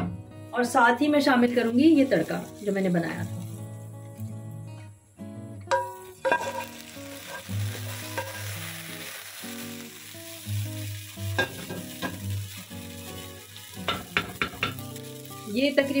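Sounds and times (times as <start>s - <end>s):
hot oil sizzling: 1.5s - 4.8s, 5.7s - 16.0s.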